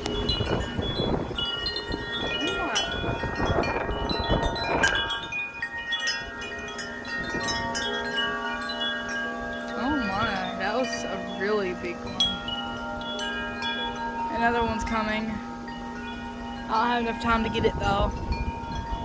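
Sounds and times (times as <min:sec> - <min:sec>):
wind buffeting microphone: 0:00.0 - 0:19.0
wind chimes ringing: 0:00.0 - 0:19.0.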